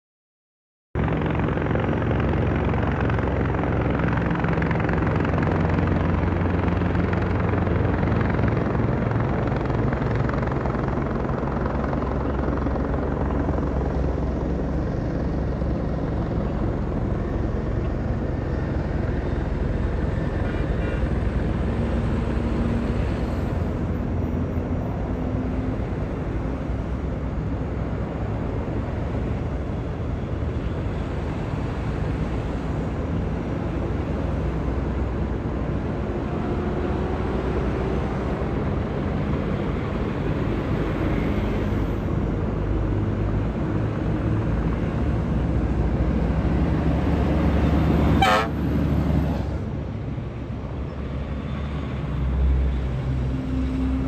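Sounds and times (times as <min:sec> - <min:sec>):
freeway traffic rushing: 0:01.0 - 0:54.0
helicopter drone overhead: 0:01.0 - 0:54.0.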